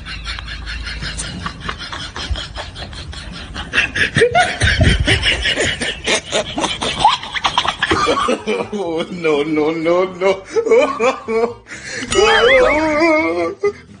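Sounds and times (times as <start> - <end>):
person laughing: 0.0 - 8.8, 10.6 - 13.8.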